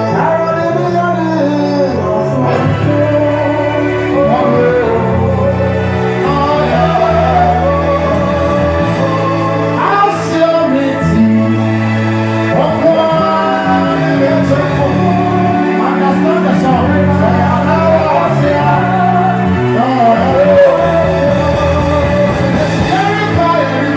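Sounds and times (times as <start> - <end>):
band playing bass and keyboard: 0.0 - 23.9
voices singing: 0.0 - 23.9.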